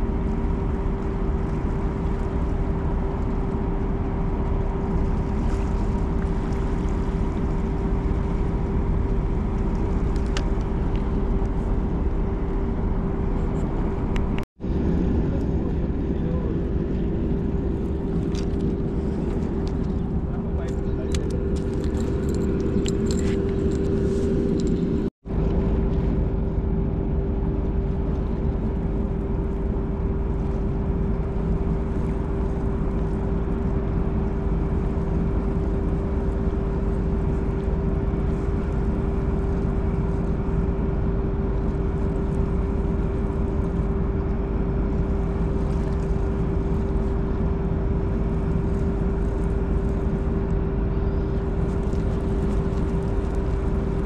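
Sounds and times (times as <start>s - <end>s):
low mechanical drone: 0.0s - 54.0s
mid-pitched hum: 0.0s - 54.0s.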